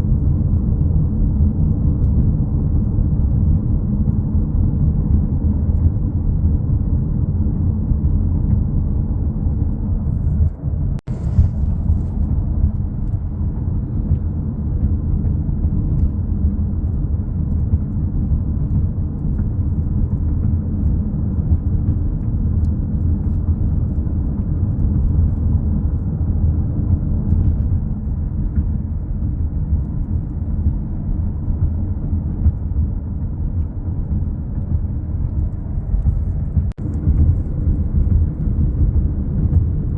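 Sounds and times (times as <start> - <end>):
storm wind buffeting microphone: 0.0 - 39.9.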